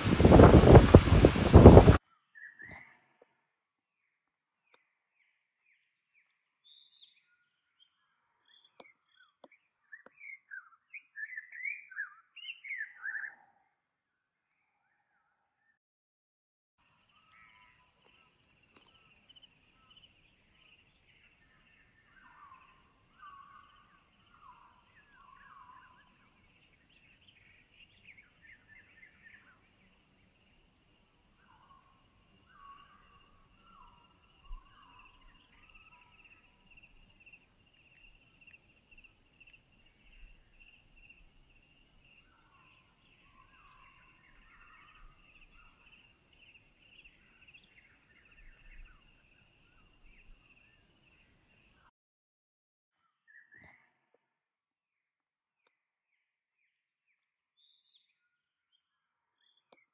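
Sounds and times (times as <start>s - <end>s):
songbird singing: 0.0s - 3.3s, 3.9s - 15.8s, 16.8s - 51.9s, 53.0s - 54.3s, 55.6s - 59.9s.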